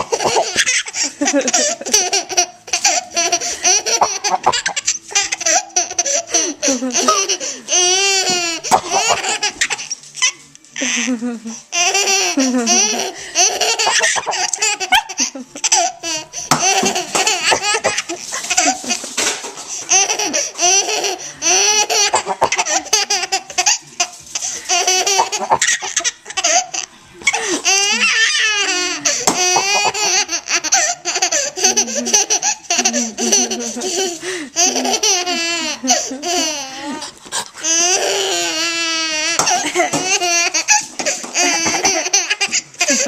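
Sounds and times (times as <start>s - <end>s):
baby laughing: 0.0s - 43.0s.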